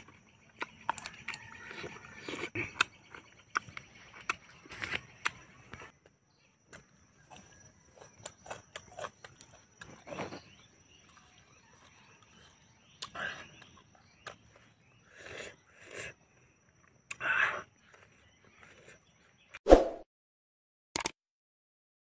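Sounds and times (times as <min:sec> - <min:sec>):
man chewing wetly: 0:00.0 - 0:19.5.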